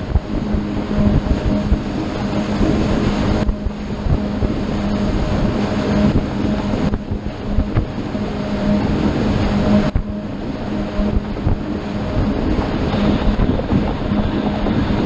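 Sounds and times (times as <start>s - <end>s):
motorboat engine humming: 0.0s - 15.0s
water rushing along hull: 0.0s - 15.0s
wind buffeting microphone: 0.0s - 15.0s.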